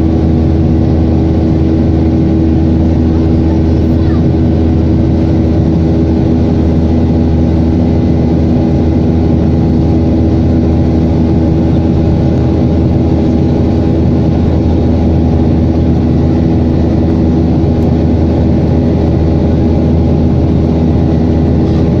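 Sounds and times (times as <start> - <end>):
jet engines droning in cabin: 0.0 - 22.0.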